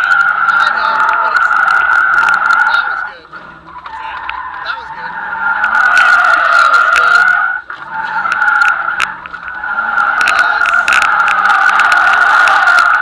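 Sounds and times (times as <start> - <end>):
car engine running: 0.0 - 13.0
tires squealing: 0.0 - 13.0.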